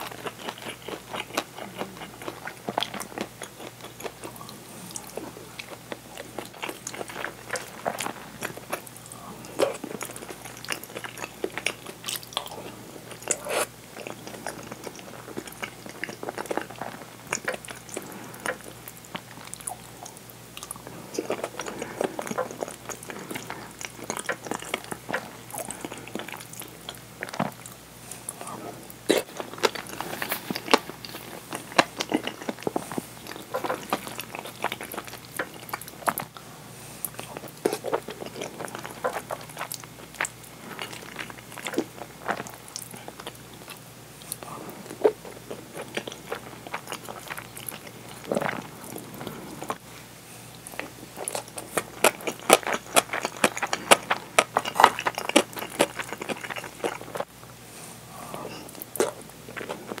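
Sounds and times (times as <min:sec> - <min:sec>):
wet chewing smacks and crunches: 0:00.0 - 0:28.4, 0:29.0 - 0:36.4, 0:37.0 - 0:49.8, 0:50.6 - 0:57.3, 0:58.6 - 1:00.0.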